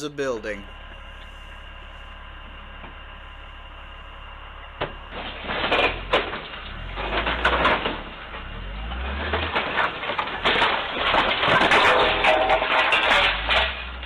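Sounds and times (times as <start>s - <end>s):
low engine rumble: 0.0s - 14.0s
steady low hum: 0.0s - 14.0s
backhoe breaking into building: 0.2s - 14.0s.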